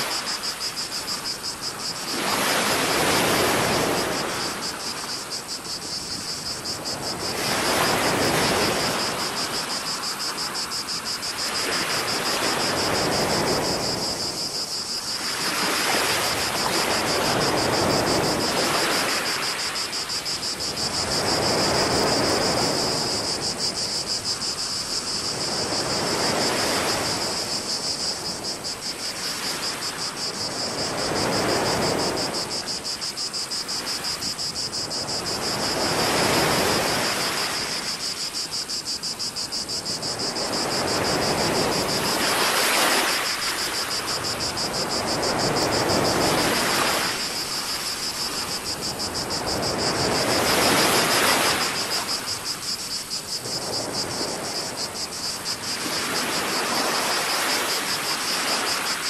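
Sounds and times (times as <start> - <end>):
small waves washing onto shore: 0.0 - 59.0.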